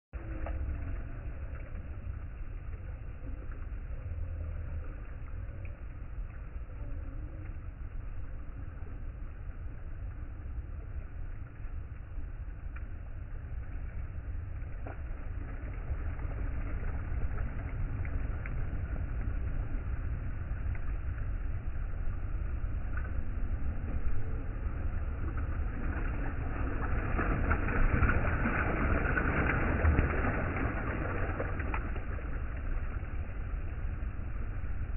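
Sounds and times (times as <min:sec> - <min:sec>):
steady low rumble: 0:00.0 - 0:34.9
river water flowing and lapping: 0:00.2 - 0:34.9.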